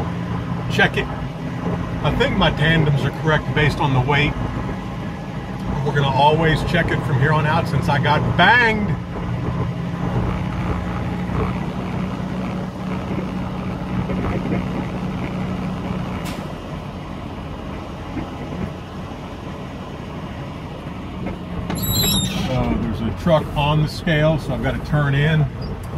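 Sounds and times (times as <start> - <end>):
truck diesel engine drone: 0.0 - 25.9.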